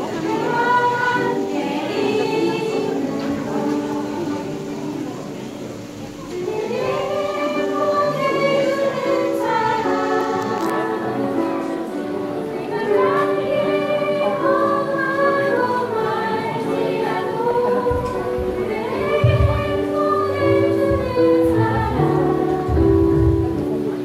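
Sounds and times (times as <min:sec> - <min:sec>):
girls singing together: 0:00.0 - 0:24.0.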